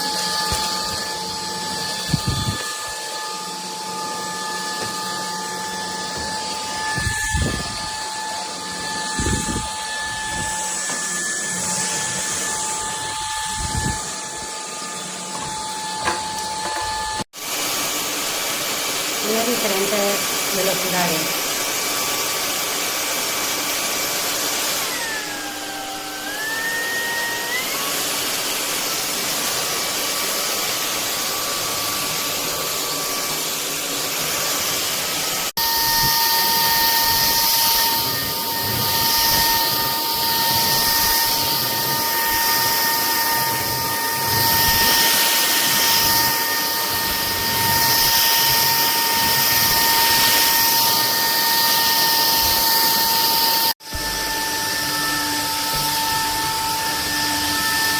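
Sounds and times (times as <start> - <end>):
stick vacuum cleaner running: 0.0 - 57.9.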